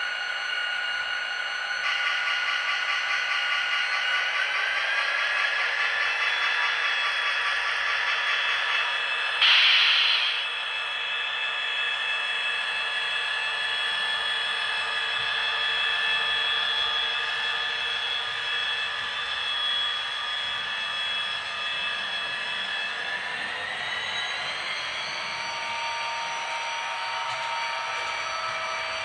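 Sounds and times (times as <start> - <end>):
model locomotive drone: 0.0 - 29.0.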